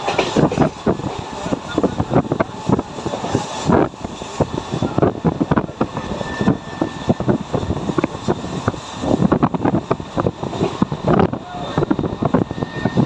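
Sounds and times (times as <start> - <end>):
train rattling and clattering: 0.0 - 13.0
wind noise on microphone: 0.0 - 13.0.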